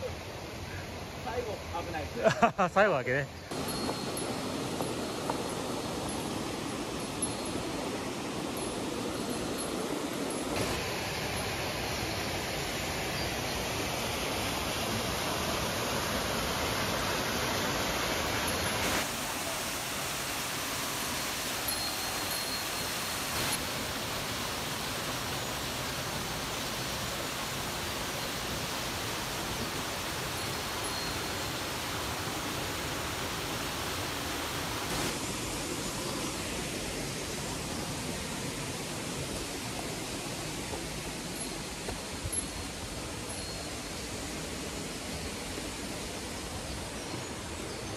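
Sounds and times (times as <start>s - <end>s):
river water rushing: 3.4s - 47.9s.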